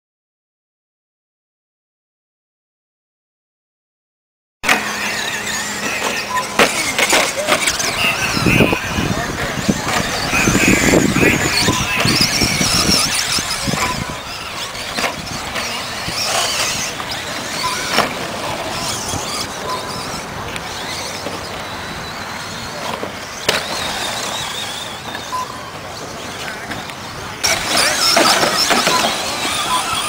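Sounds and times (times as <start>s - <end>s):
electric motors whining: 4.7s - 30.0s.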